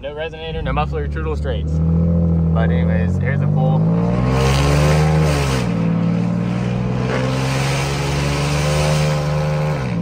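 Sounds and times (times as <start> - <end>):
loud exhaust under acceleration: 0.0 - 10.0.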